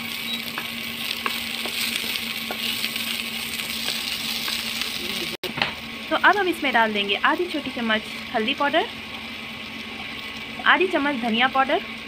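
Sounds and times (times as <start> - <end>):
peas sizzling in hot oil: 0.0 - 12.0.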